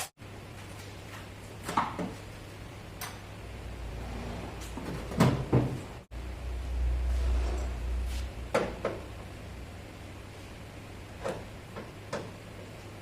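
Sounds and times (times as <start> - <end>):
low steady hum: 0.2 - 13.0.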